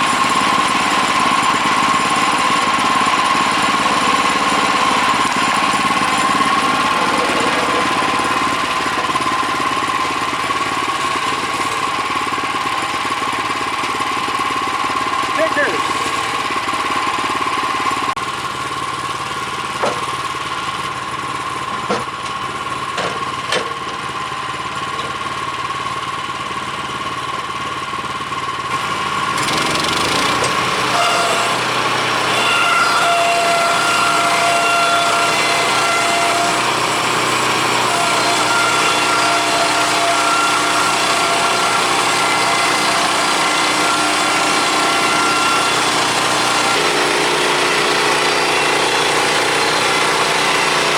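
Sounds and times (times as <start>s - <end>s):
sawmill engine running: 0.0s - 50.9s.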